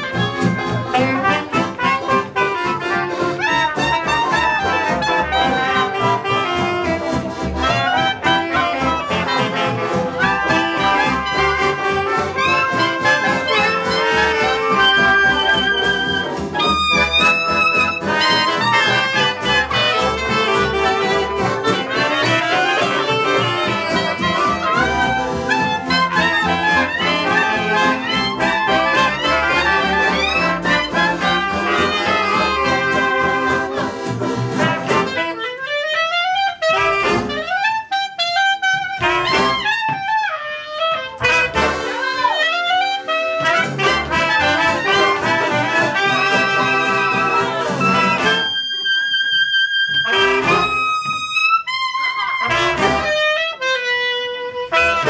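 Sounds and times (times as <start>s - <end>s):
jazz band playing: 0.0s - 55.0s
wind instrument sliding phrases: 0.0s - 55.0s.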